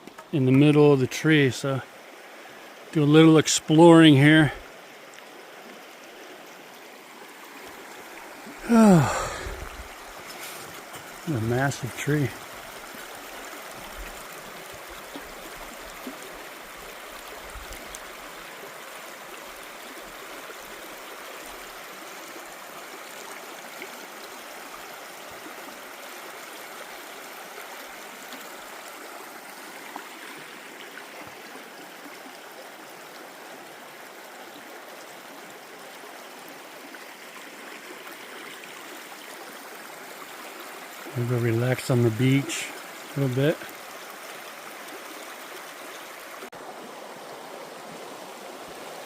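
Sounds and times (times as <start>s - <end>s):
forest creek rushing: 0.0s - 49.0s.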